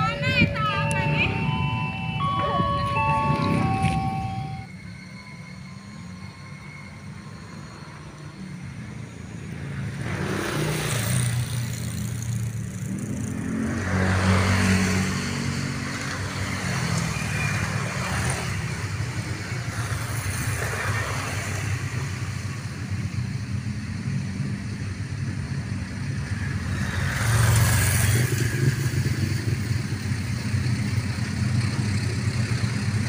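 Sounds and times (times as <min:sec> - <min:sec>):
distant diesel train rumble: 0:00.0 - 0:10.2, 0:15.2 - 0:33.0.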